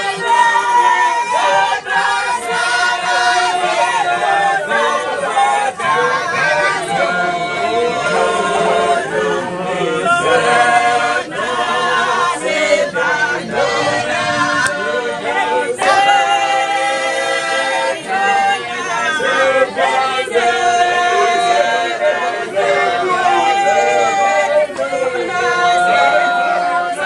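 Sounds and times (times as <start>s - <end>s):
congregation singing: 0.0s - 27.0s.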